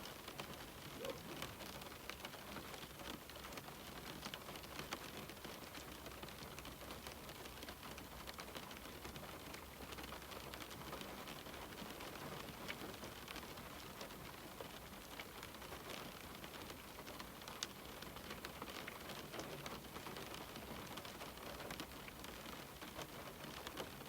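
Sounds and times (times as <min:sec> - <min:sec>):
rain pattering on window glass: 0:00.0 - 0:24.0.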